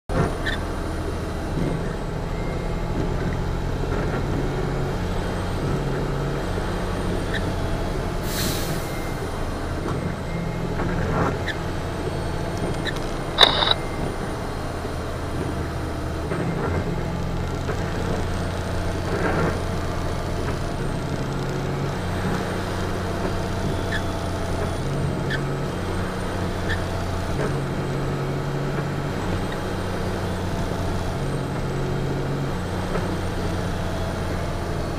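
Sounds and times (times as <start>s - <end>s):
truck diesel engine running: 0.3s - 34.9s.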